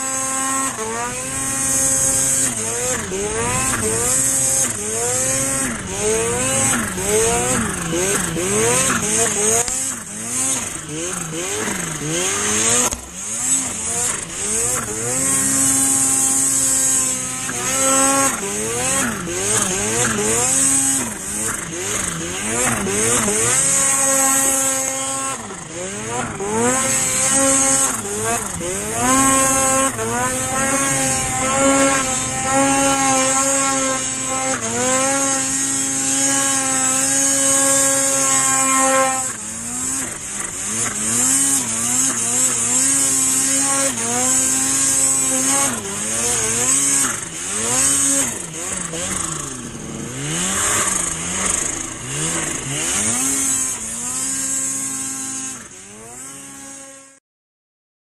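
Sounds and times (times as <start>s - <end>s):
snowmobile engine revving: 0.0s - 57.2s.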